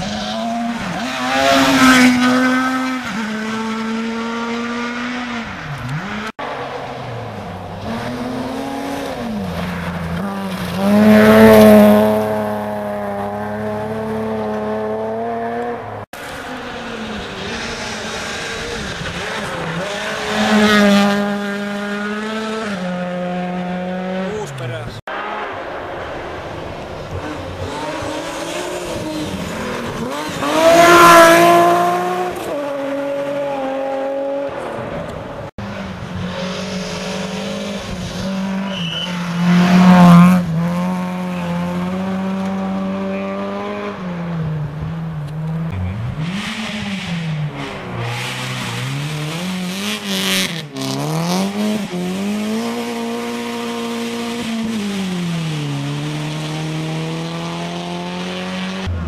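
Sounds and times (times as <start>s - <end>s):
car braking and accelerating: 0.0s - 59.0s
rally car engines revving: 0.0s - 59.0s.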